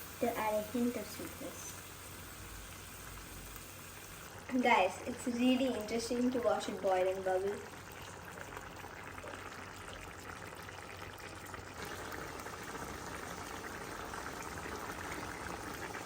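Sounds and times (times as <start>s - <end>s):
water boiling and bubbling: 0.0s - 16.0s.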